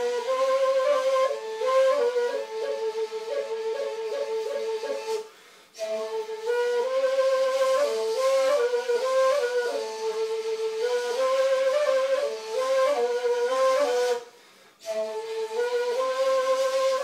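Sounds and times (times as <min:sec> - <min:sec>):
end-blown flute melody: 0:00.0 - 0:17.0.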